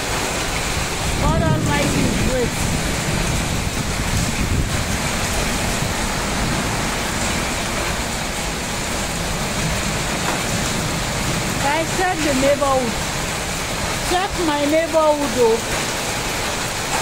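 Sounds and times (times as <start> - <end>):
heavy rain on flooded street: 0.0 - 17.0
wind buffeting microphone: 0.1 - 17.0.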